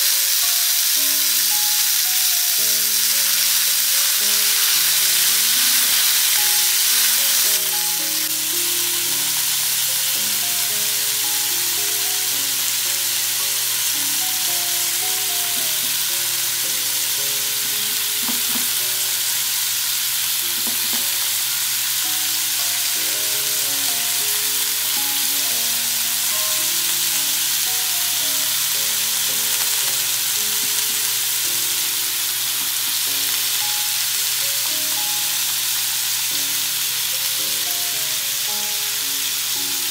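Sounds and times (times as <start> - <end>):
soft background music: 0.0 - 39.9
steaks sizzling on a griddle: 0.0 - 39.9.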